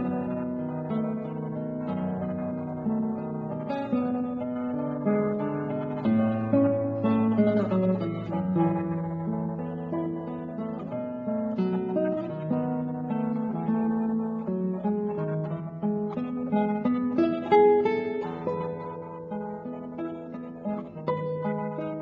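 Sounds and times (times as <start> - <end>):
plucked melody: 0.0 - 22.0.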